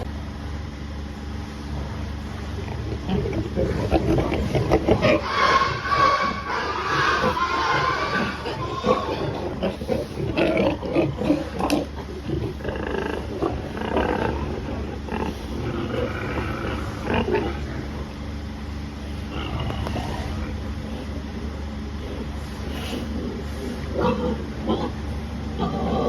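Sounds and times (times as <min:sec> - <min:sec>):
steady low hum: 0:00.0 - 0:26.0
pigs calling: 0:02.0 - 0:26.0.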